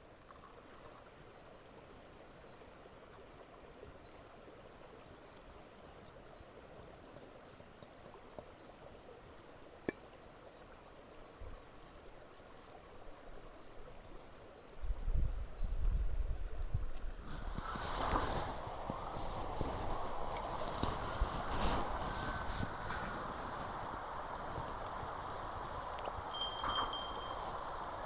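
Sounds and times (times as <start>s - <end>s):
faint outdoor ambience: 0.0s - 28.0s.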